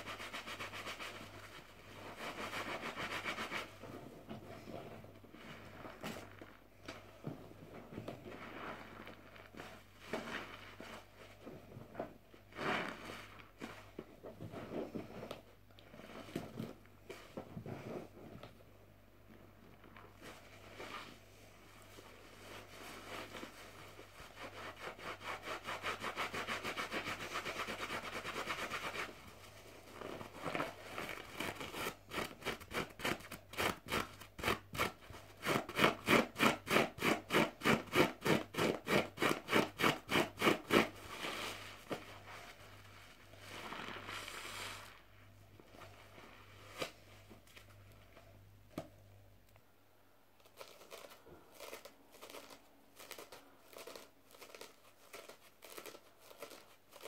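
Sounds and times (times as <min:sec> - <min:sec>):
soapy sponge scrubbing and squeezing: 0:00.0 - 0:18.6, 0:19.2 - 0:48.3.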